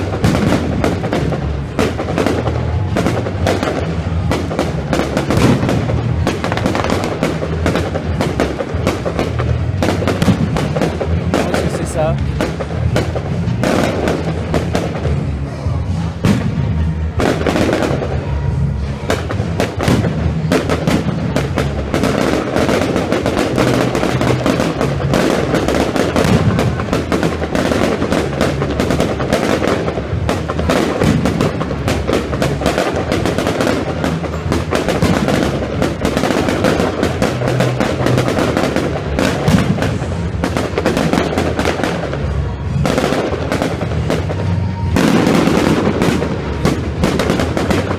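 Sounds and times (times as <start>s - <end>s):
fireworks bangs and crackles: 0.0s - 47.9s
music playing: 0.0s - 47.9s.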